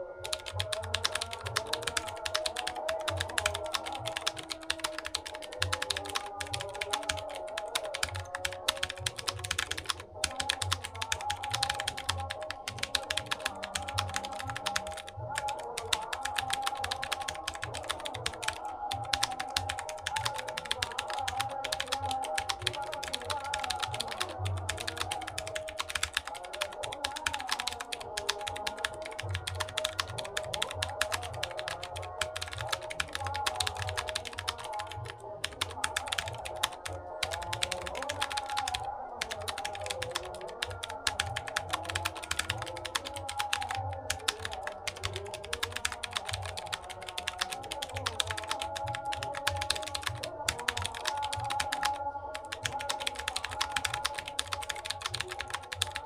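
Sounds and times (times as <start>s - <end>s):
background music: 0.0s - 56.0s
fast keyboard typing: 0.0s - 56.0s.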